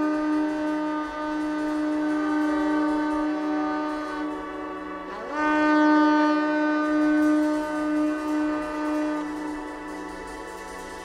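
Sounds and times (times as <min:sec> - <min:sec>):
shofar blast: 0:00.0 - 0:11.0.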